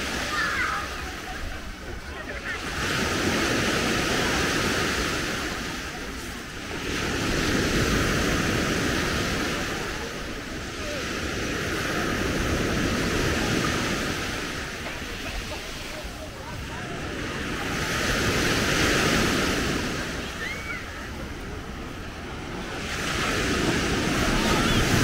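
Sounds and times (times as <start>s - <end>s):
small sea waves breaking: 0.0s - 25.0s.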